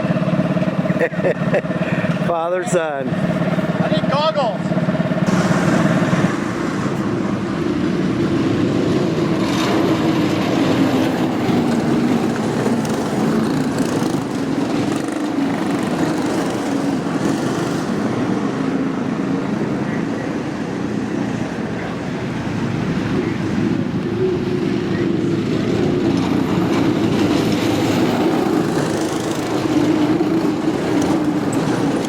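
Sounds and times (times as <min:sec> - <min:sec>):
small kart engines running: 0:00.0 - 0:32.0.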